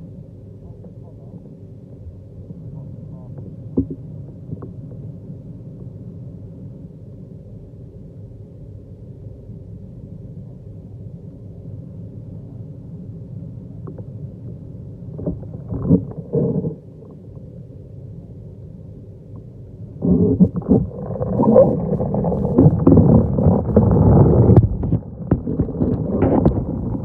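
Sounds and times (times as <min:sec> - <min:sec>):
muffled underwater rumble: 0:00.0 - 0:27.0.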